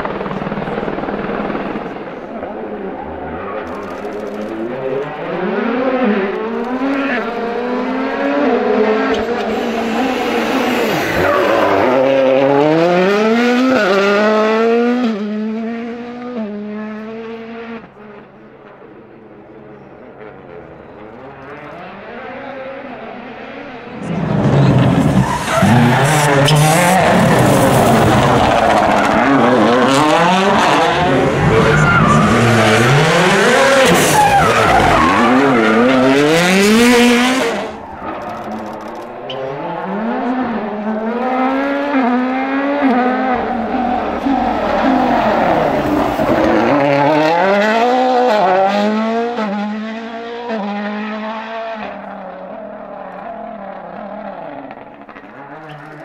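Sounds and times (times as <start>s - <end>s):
rally car engines revving hard: 0.0s - 19.2s, 19.8s - 56.0s
distant rally car revving: 0.0s - 56.0s.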